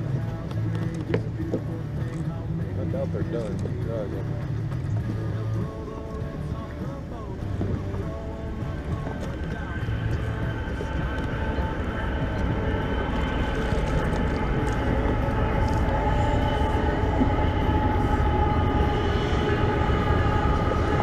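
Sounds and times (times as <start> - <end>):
boat motor running: 0.0 - 21.0.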